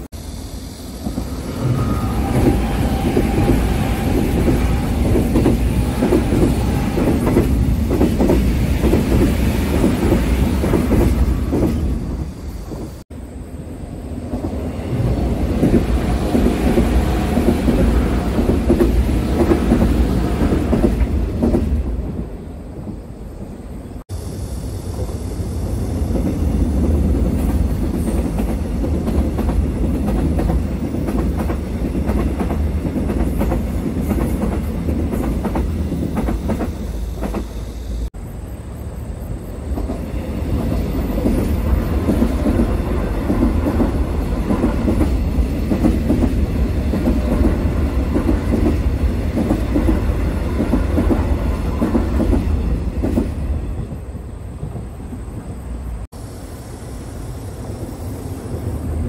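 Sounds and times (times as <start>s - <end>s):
electric train passing: 0.0s - 59.0s.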